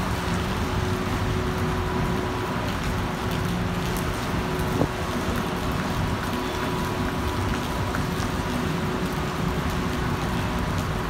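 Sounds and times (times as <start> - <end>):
car traffic on wet street: 0.0 - 11.0
heavy rain: 0.0 - 11.0.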